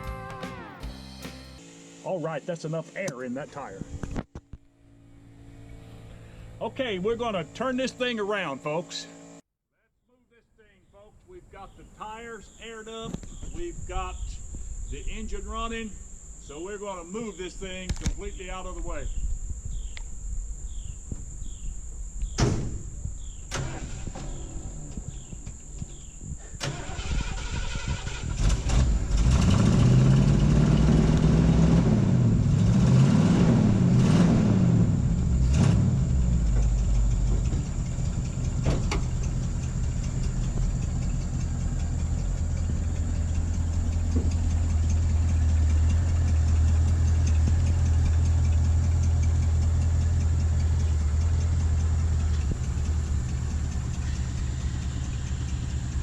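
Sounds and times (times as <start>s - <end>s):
truck engine revving: 4.6s - 9.4s, 14.2s - 56.0s.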